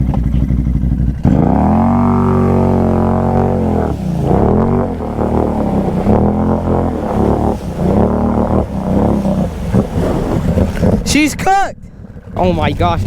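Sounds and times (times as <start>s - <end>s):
atv engine revving in mud: 0.0s - 13.0s.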